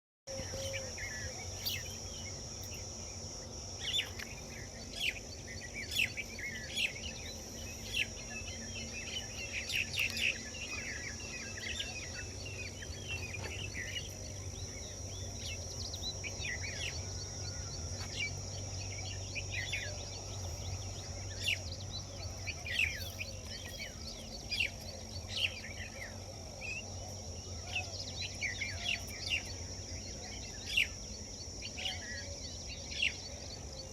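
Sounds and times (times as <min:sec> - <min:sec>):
faint low hum: 0:00.3 - 0:33.9
high insect whine: 0:00.3 - 0:33.9.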